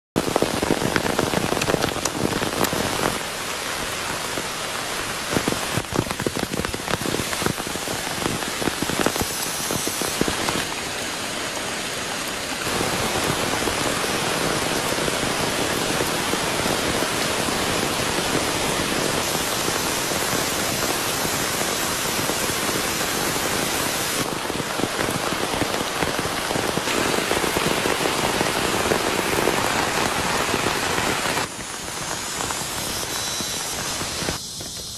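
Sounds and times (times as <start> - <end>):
rain falling: 0.2 - 34.7.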